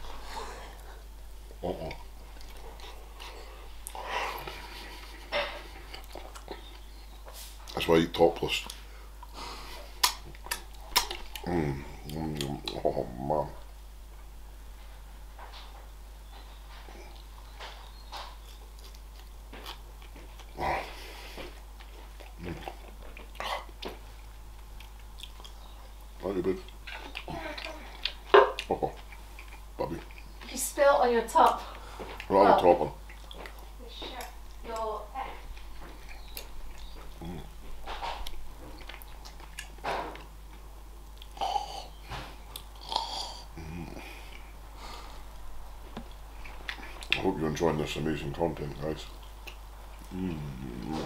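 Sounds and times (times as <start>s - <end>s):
man chewing: 0.0s - 8.0s, 8.6s - 30.5s, 31.5s - 34.6s, 35.4s - 47.3s, 49.1s - 51.0s.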